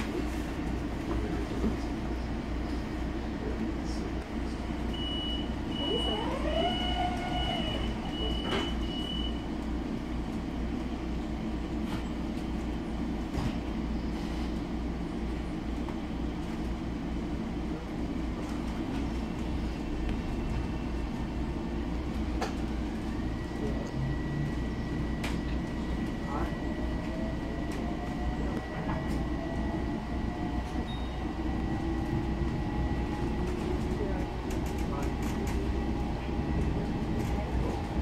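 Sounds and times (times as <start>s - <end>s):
train interior hum: 0.0s - 38.0s.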